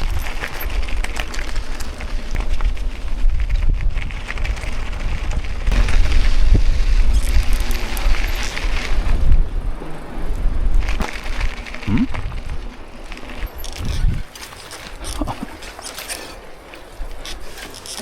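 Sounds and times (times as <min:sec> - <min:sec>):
wind buffeting microphone: 0:00.0 - 0:15.7
bike rattling: 0:00.0 - 0:18.0
bike tyres crunching on dirt: 0:00.0 - 0:18.0.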